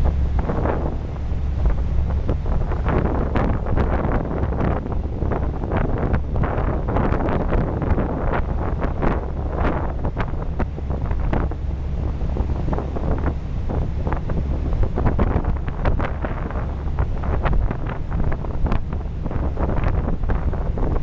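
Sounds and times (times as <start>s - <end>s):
boat engine rumble: 0.0s - 21.0s
wind buffeting microphone: 0.0s - 21.0s.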